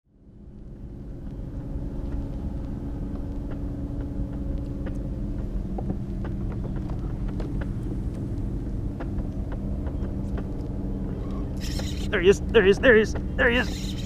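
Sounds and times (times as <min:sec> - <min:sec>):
low engine drone: 0:00.1 - 0:14.0.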